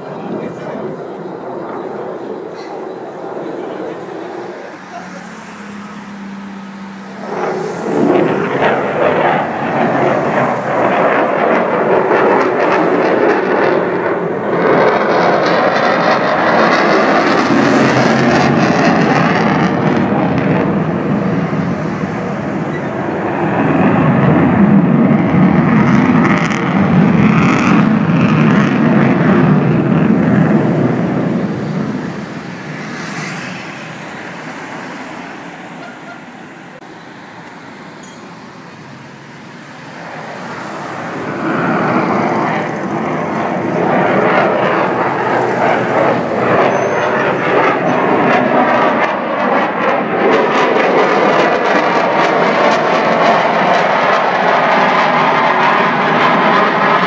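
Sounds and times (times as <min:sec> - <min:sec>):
fighter jet roar: 0:00.0 - 0:57.0.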